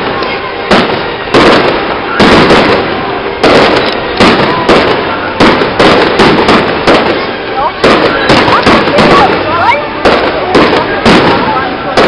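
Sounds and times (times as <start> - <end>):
firework shells bursting: 0.0 - 12.0
noisy rumble: 0.0 - 12.0.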